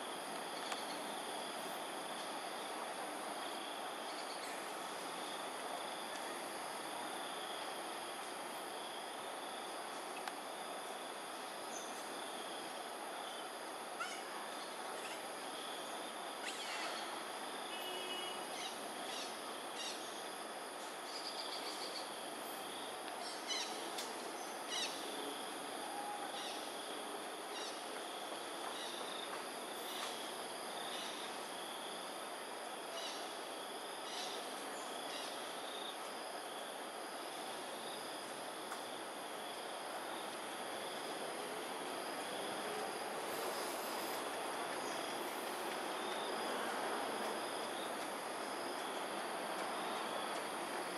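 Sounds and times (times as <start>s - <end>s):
insect chorus buzzing: 0.0s - 50.9s
outdoor hiss: 0.0s - 50.9s.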